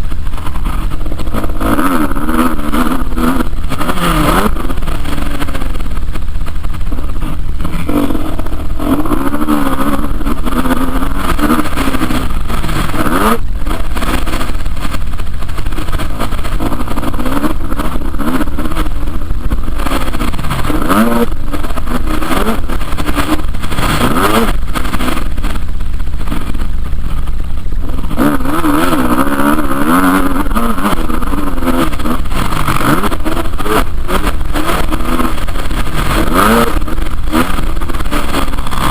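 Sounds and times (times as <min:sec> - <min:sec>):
motorcycle engines revving: 0:00.0 - 0:38.9
steady low rumble: 0:00.0 - 0:38.9.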